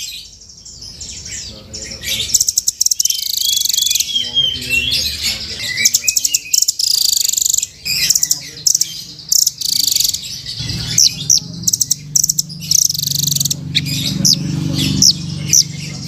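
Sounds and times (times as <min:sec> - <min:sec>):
bird chattering trills: 0:00.0 - 0:16.0
short rising bird notes: 0:01.9 - 0:16.0.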